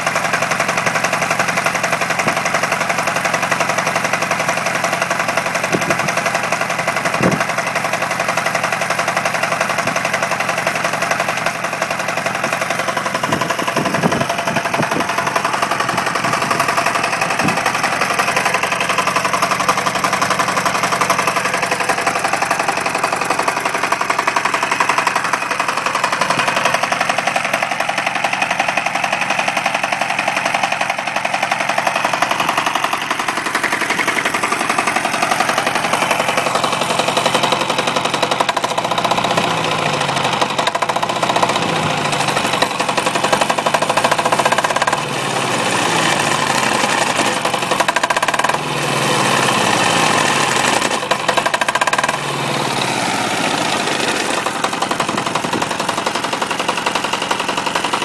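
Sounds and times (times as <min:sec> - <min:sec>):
diesel engine clattering: 0:00.0 - 0:58.0.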